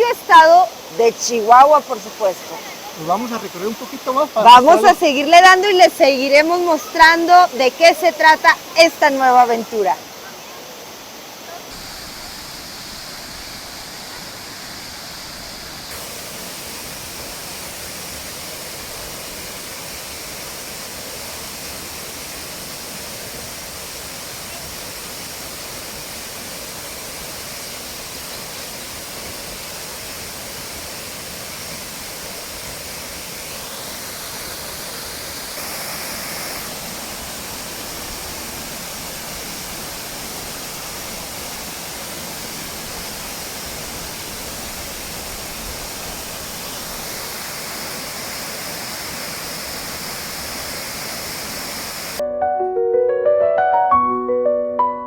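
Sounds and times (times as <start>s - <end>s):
waterfall rushing: 0.0s - 52.2s.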